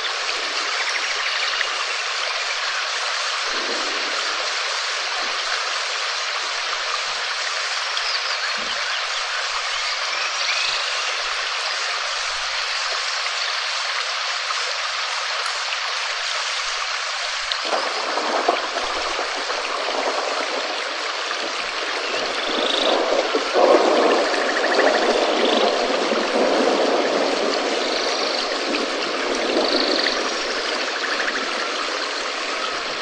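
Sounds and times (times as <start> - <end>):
heavy rain: 0.0 - 33.0.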